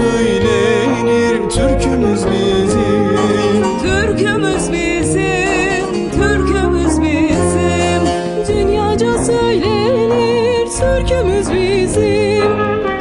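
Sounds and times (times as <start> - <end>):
person singing folk song: 0.0 - 13.0
sustained instrumental notes: 0.0 - 13.0.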